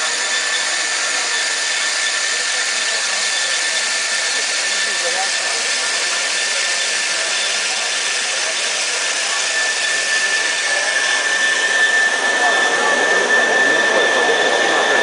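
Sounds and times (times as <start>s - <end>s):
band saw whining: 0.0s - 15.0s.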